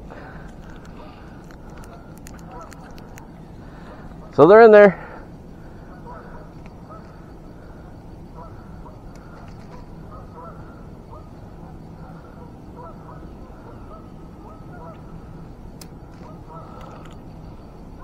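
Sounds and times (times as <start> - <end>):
low steady rumble: 0.0 - 18.0
waterfowl honking: 1.0 - 15.4, 16.0 - 17.0.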